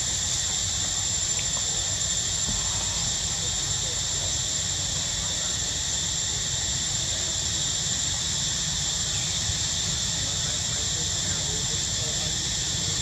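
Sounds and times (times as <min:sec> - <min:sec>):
constant low rumble: 0:00.0 - 0:13.0
high-pitched insect drone: 0:00.0 - 0:13.0.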